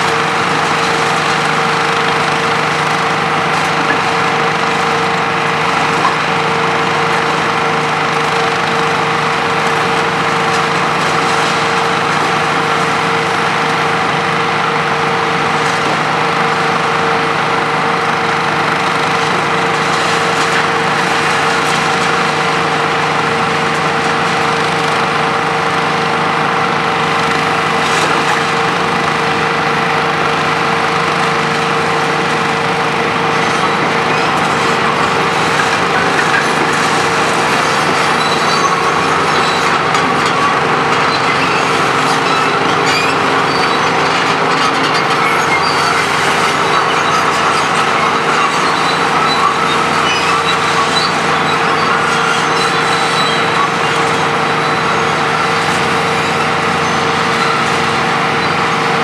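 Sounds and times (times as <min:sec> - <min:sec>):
excavator diesel engine and hydraulics: 0:00.0 - 0:59.0.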